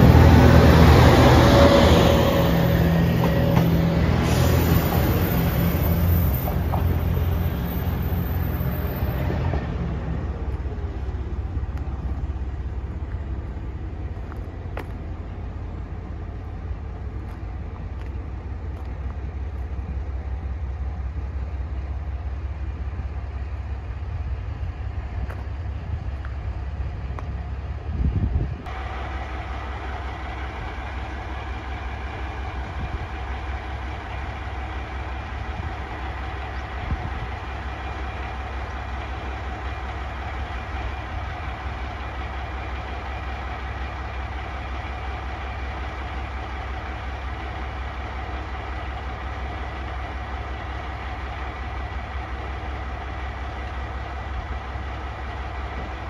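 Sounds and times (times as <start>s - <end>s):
diesel railcar idling: 0.0s - 56.0s.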